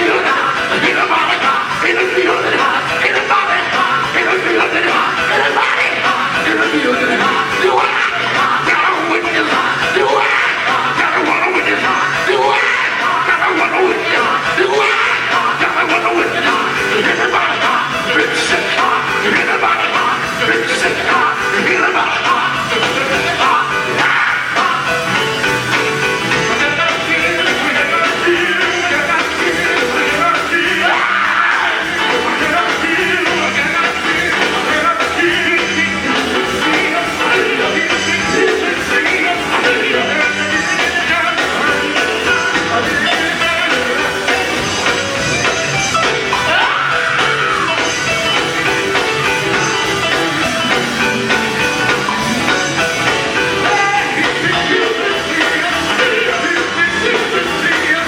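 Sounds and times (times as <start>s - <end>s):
gospel group singing: 0.0s - 58.0s
instrumental accompaniment: 0.0s - 58.0s.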